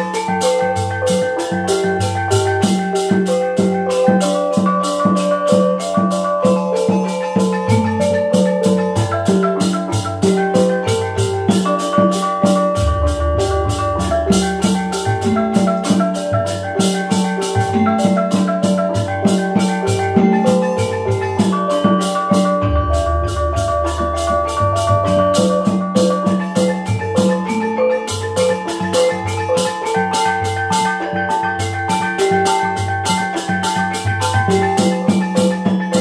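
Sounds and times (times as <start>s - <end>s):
barrel drum: 0.0s - 36.0s.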